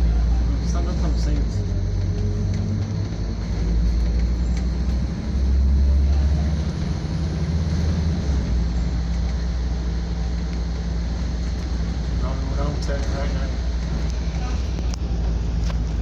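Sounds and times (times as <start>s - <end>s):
bus engine droning: 0.0s - 16.0s
road noise: 0.0s - 16.0s.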